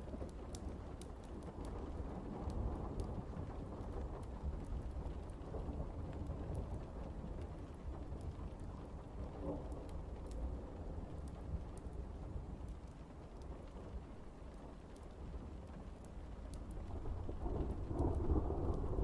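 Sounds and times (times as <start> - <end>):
rain rushing: 0.0 - 19.0.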